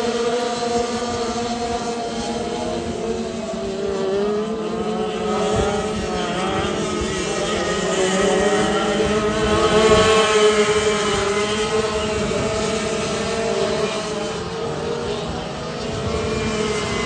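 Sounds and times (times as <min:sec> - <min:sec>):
kart engines racing: 0:00.0 - 0:17.0.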